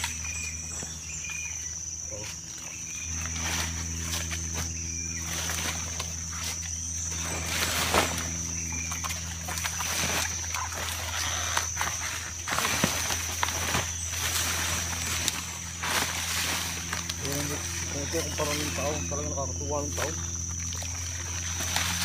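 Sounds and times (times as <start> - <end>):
steady high whine: 0.0 - 22.0
steady low hum: 0.0 - 22.0.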